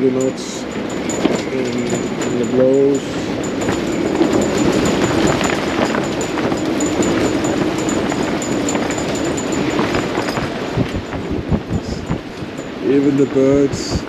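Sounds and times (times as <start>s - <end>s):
strong wind howling: 0.0s - 14.0s.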